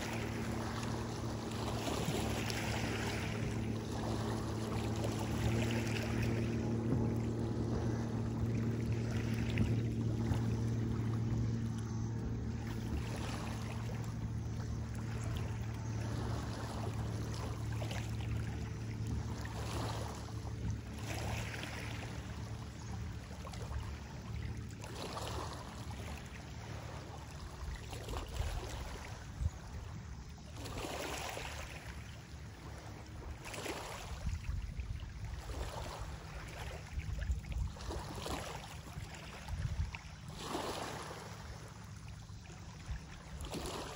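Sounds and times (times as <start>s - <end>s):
wind rumbling on microphone: 0.0s - 24.6s, 27.4s - 30.8s, 32.6s - 40.9s
distant motorboat engine humming: 0.0s - 43.9s
waves lapping on rocky shore: 0.0s - 43.9s.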